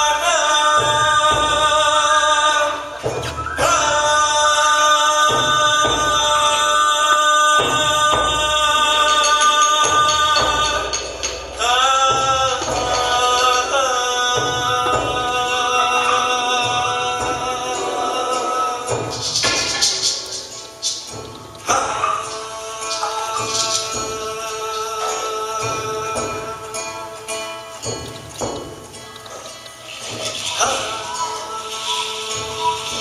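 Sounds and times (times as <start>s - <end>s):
person singing long wavering notes: 0.0s - 20.4s, 21.1s - 33.0s
drum beats: 0.0s - 33.0s.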